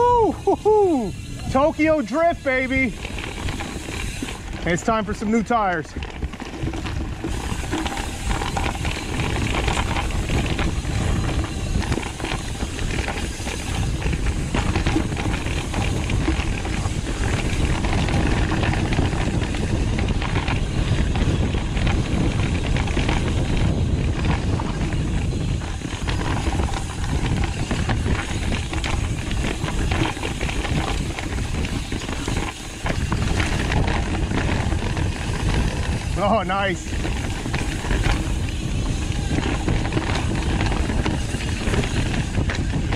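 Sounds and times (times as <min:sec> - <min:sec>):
bike rattling over bumps: 0:00.0 - 0:42.9
tyres rolling on dirt: 0:00.0 - 0:42.9
wind over microphone: 0:00.0 - 0:42.9.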